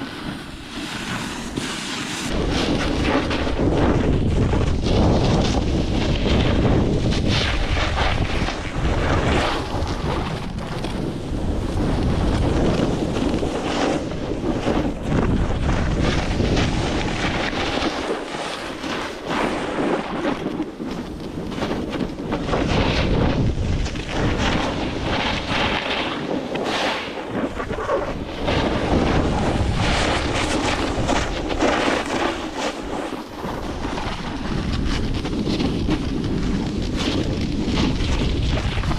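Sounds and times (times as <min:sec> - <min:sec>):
gusting wind on microphone: 0:00.0 - 0:38.9.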